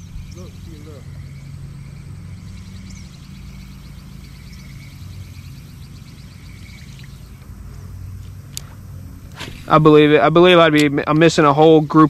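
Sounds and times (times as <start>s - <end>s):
rapid chirping calls: 0.0s - 10.7s
low hum: 0.0s - 12.0s.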